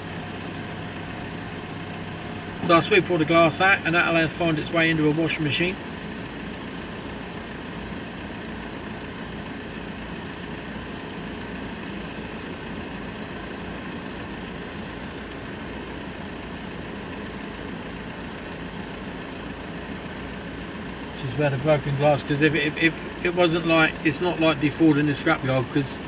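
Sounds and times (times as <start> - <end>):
van engine and road noise: 0.0 - 26.0.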